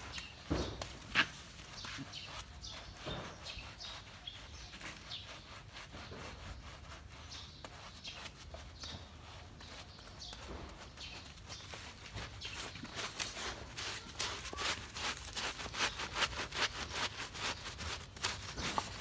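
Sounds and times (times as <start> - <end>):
squishy scrubbing of wet fur: 0.0 - 19.0.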